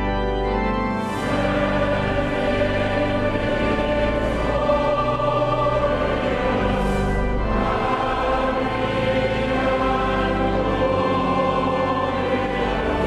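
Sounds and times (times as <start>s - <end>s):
choir singing slow chords: 0.0s - 13.0s.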